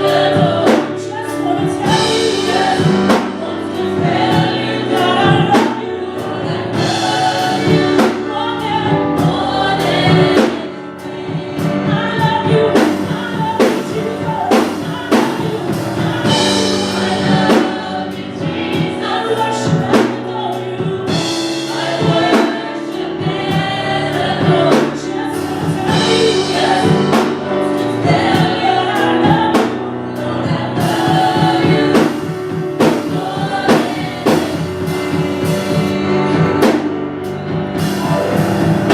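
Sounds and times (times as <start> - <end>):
drums steady beat: 0.0 - 29.8, 30.4 - 38.9
gospel choir singing: 0.0 - 38.9.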